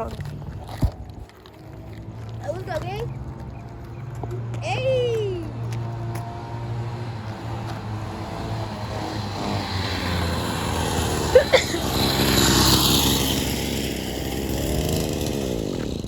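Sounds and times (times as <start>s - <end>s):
mini bike engine passing: 0.0s - 16.0s.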